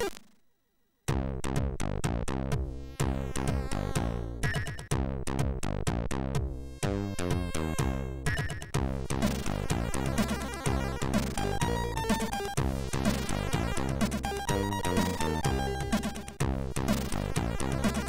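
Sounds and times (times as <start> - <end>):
chiptune music: 1.1 - 18.0.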